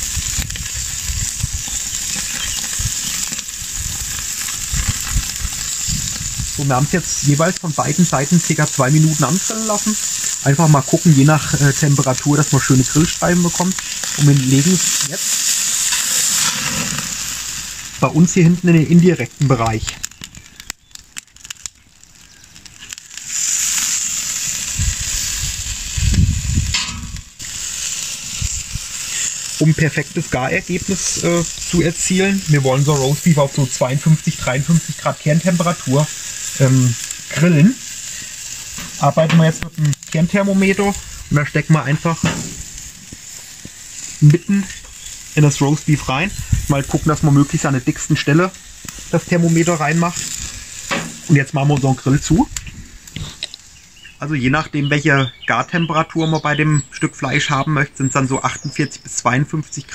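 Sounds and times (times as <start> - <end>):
beef sizzling on grill: 0.0 - 59.9.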